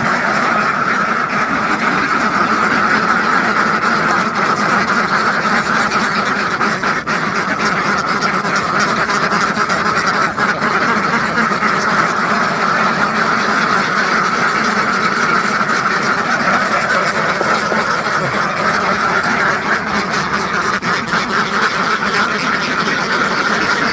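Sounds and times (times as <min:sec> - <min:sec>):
ducks quacking: 0:00.0 - 0:23.9.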